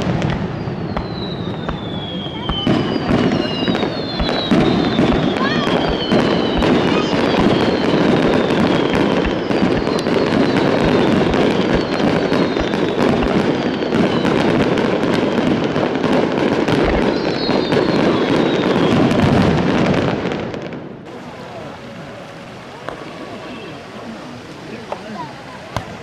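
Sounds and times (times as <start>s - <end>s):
fireworks crackling and popping: 0.0s - 26.0s
fireworks whistling: 0.0s - 26.0s.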